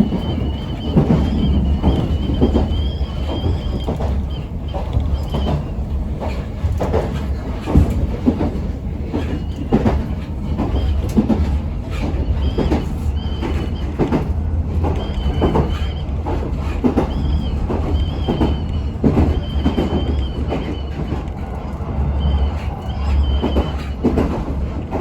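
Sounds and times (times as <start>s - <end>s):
high wheel squeal: 0.0s - 14.0s, 14.9s - 24.2s
train rumble: 0.0s - 25.0s.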